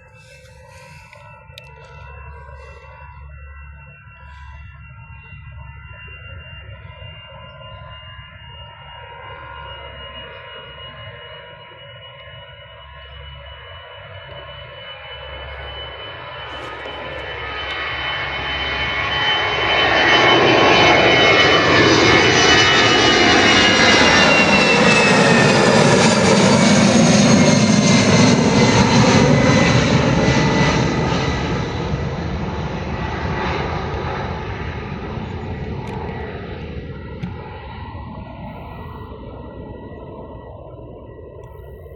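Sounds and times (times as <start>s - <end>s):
jet airliner taking off: 0.0s - 41.9s
jet engine whine falling in pitch: 0.0s - 41.9s.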